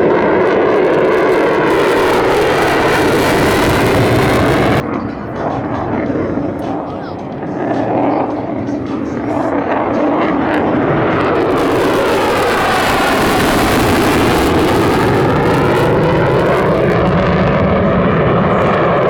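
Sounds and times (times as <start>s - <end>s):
jet engine roar flying past: 0.0s - 19.0s.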